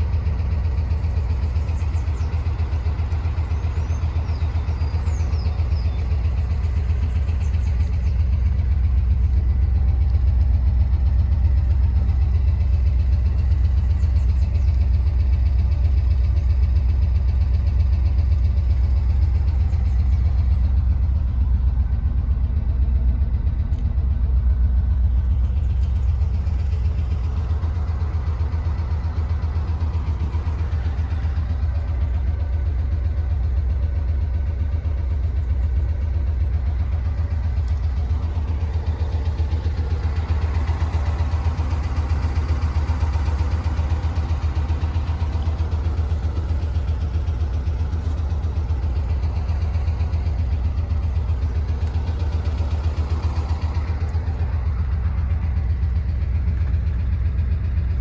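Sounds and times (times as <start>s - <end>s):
van engine idling: 0.0s - 58.0s.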